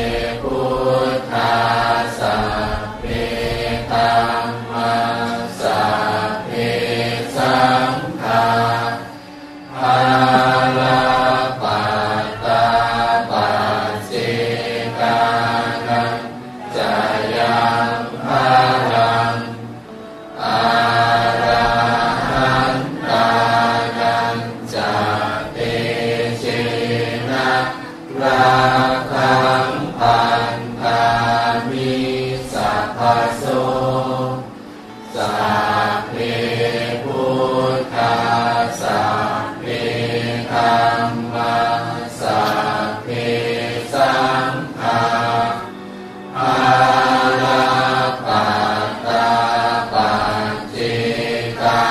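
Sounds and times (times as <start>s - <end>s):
voices chanting melodically: 0.0s - 51.9s.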